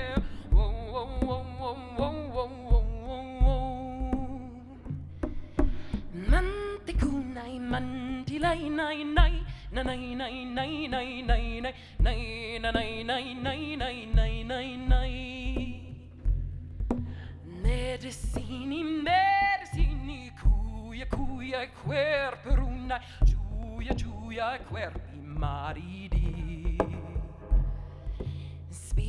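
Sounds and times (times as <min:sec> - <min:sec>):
low beats: 0:00.0 - 0:21.5, 0:22.4 - 0:29.0.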